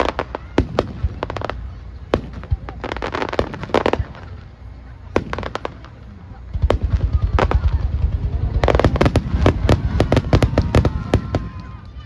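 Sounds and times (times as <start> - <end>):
fireworks bangs and crackling: 0.0 - 12.0
fireworks low booms: 0.0 - 12.0.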